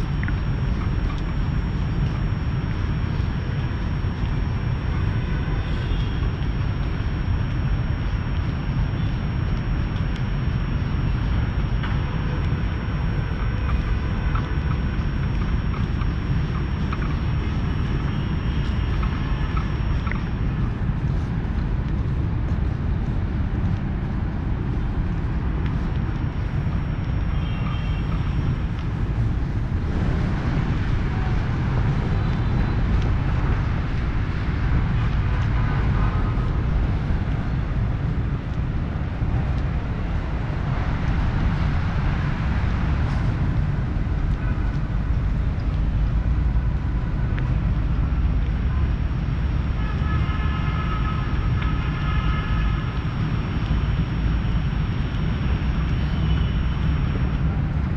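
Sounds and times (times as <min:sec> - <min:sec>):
wind buffeting microphone: 0:00.0 - 0:49.9
distant traffic hum: 0:00.0 - 0:57.9.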